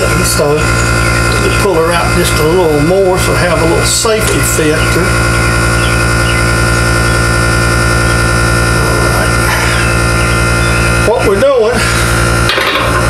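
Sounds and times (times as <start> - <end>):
machine hum with pulsing low note: 0.0 - 13.0.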